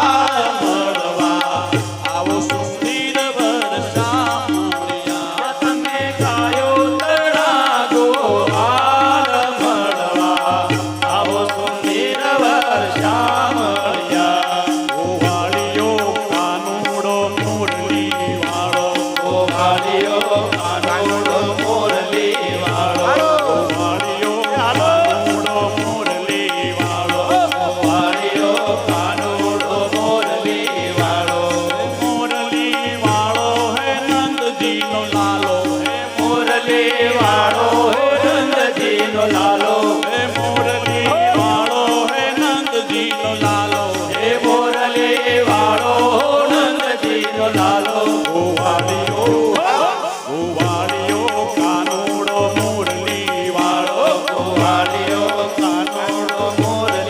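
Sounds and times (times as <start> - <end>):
tabla-like percussion: 0.0 - 57.0.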